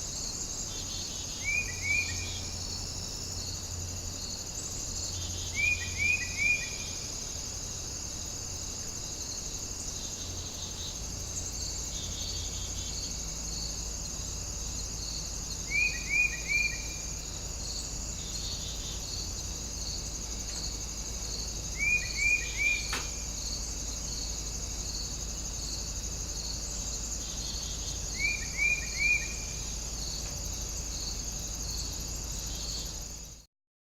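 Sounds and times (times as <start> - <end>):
crickets and insects trilling: 0.0 - 33.5
bird chirping: 0.1 - 3.6, 5.0 - 7.2, 10.0 - 25.0, 26.0 - 33.2.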